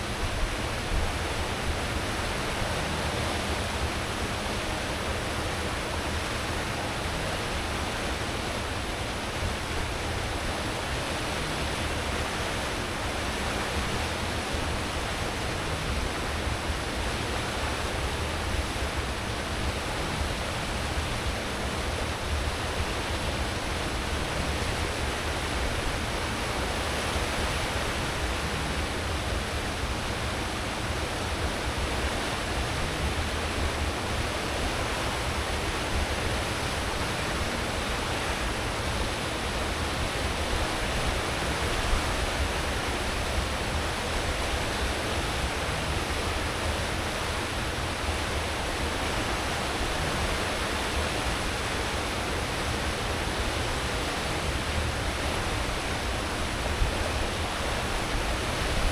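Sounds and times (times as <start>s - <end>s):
ship wake churning water: 0.0s - 58.9s.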